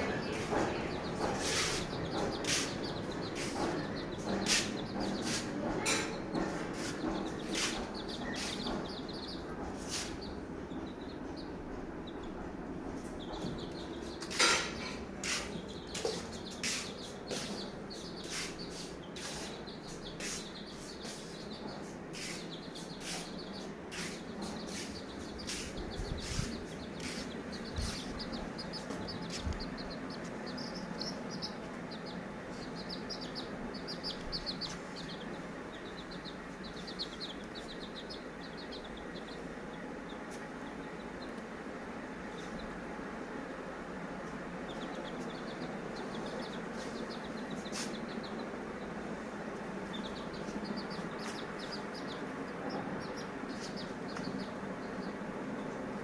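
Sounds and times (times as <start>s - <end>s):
small bird chirping: 0.0s - 43.0s, 44.1s - 56.0s.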